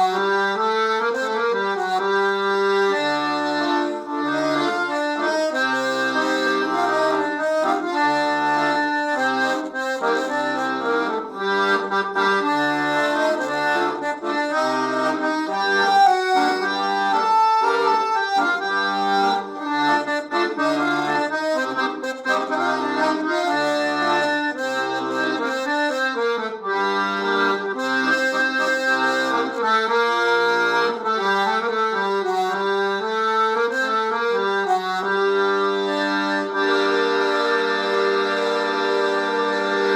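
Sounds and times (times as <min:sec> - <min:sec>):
accordion melody: 0:00.0 - 0:39.9.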